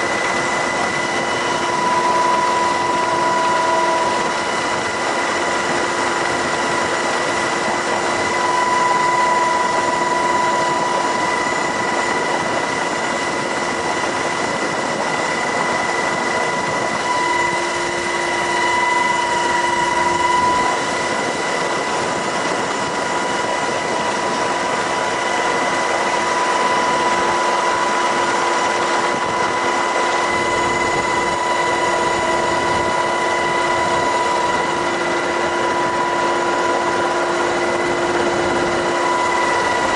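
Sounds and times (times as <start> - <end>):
helicopter drone with high whine: 0.0 - 39.9.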